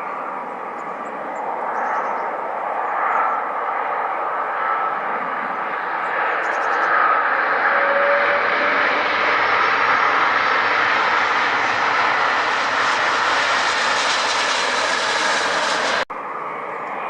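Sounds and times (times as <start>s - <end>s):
airplane engines running: 0.0s - 17.0s.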